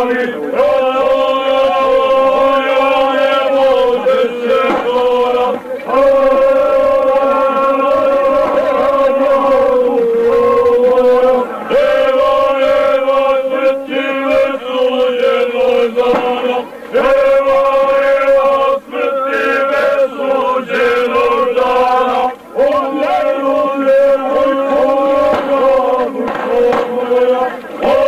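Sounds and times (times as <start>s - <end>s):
men singing together: 0.0s - 28.0s.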